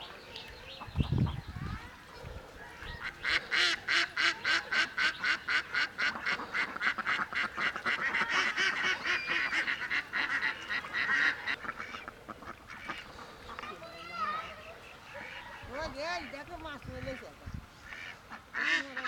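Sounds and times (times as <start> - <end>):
ducks quacking rapidly: 2.7 - 19.0.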